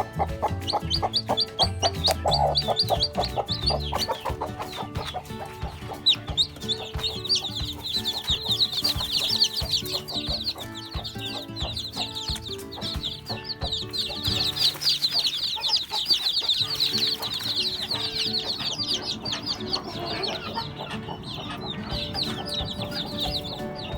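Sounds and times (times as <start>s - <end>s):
chicks peeping: 0.0s - 23.9s
hen clucking: 0.0s - 23.9s.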